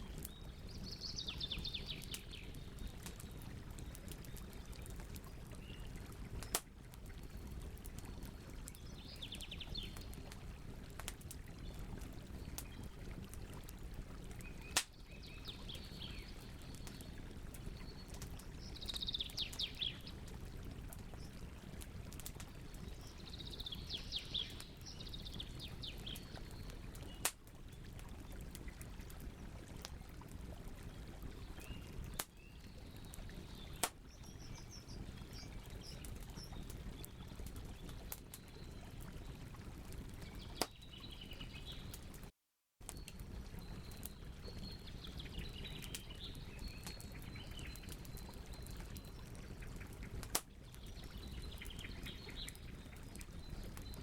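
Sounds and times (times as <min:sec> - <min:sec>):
campfire crackling and popping: 0:00.0 - 0:54.0
small birds chirping: 0:00.1 - 0:10.3, 0:11.0 - 0:21.4, 0:22.2 - 0:27.3, 0:31.2 - 0:39.1, 0:40.2 - 0:42.1, 0:42.9 - 0:54.0.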